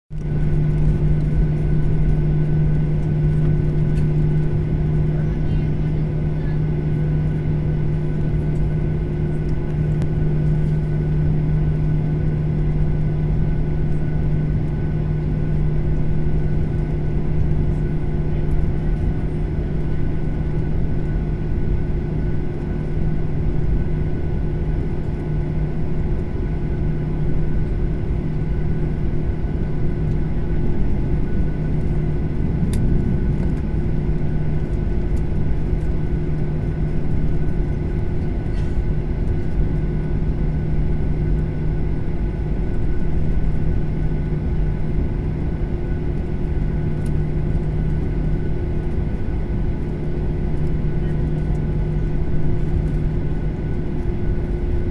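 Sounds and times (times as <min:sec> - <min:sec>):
airliner cabin hum: 0:00.1 - 0:54.9.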